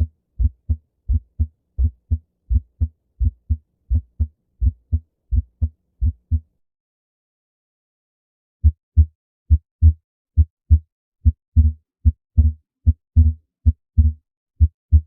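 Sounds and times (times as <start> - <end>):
human heartbeat: 0.0 - 6.5, 8.6 - 15.0.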